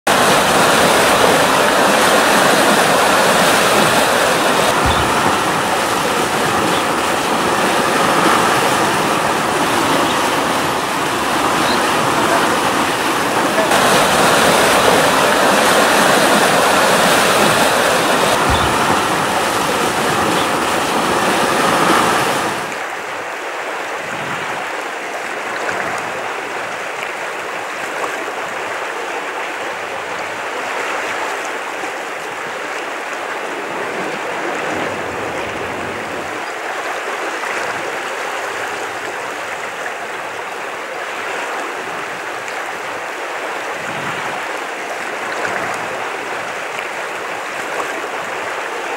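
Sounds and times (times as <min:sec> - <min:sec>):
rushing river water: 0:00.0 - 0:48.9.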